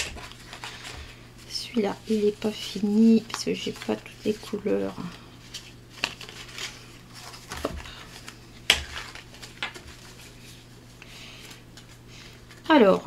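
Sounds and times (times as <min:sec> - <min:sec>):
paper cards clicking and rustling: 0:00.0 - 0:01.2, 0:02.0 - 0:12.8.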